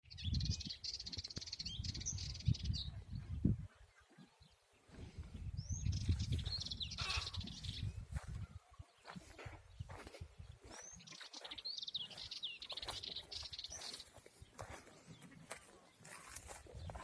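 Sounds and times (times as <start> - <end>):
goldfinch twittering song: 0.1 - 3.0, 5.5 - 8.3, 9.0 - 17.0.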